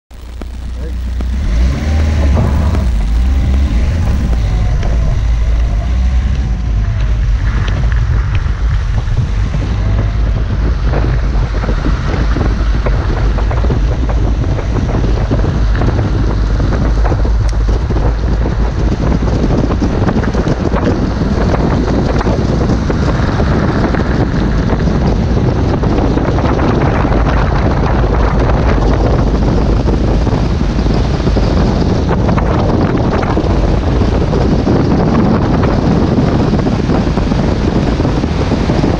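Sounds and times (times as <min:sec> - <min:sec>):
road crackle: 0:00.0 - 0:38.9
wind blasting microphone: 0:00.1 - 0:38.9.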